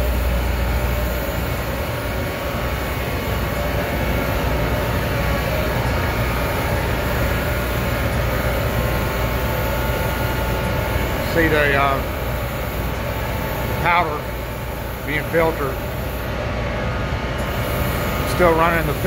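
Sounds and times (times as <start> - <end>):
exhaust blower whooshing drone: 0.0 - 19.0.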